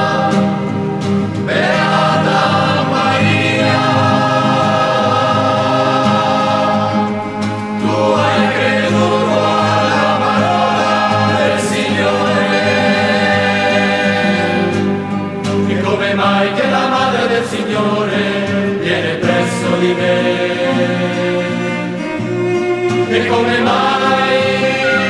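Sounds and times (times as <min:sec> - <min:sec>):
choir singing a hymn: 0:00.0 - 0:25.0
instrumental accompaniment: 0:00.0 - 0:25.0.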